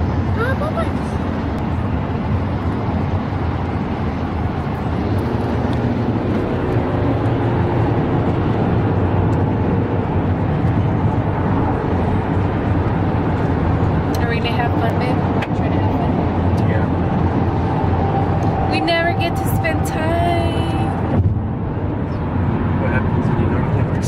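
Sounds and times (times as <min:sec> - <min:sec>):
car cabin road noise rumble: 0:00.0 - 0:24.0.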